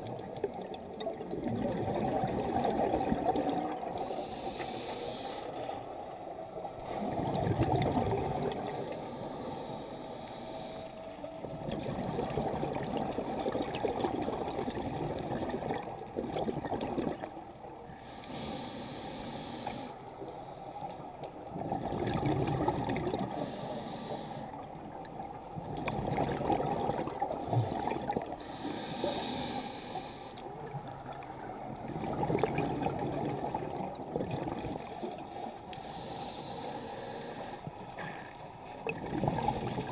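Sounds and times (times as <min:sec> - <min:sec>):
underwater exhaled air bubbling: 0:00.0 - 0:19.9, 0:21.4 - 0:39.9.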